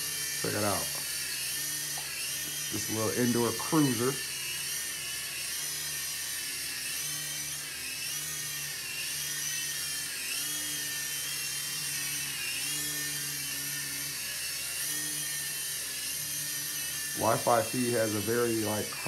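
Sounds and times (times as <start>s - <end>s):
toy helicopter motor whine: 0.0s - 19.0s.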